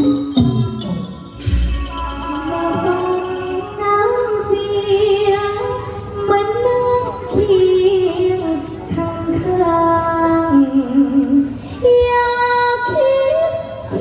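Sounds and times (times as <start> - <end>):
instrumental backing music: 0.0 - 14.0
woman singing: 2.0 - 14.0.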